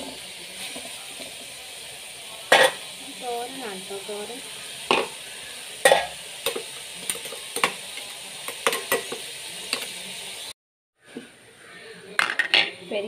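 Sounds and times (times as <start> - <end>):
vegetables sizzling: 0.0 - 13.0.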